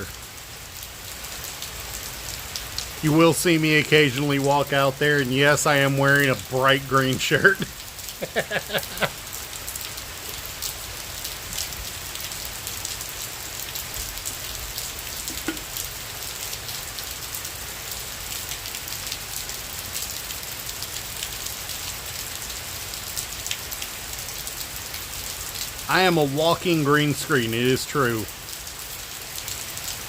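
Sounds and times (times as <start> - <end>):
heavy rain: 0.0 - 30.0
raindrops striking close by: 0.0 - 30.0.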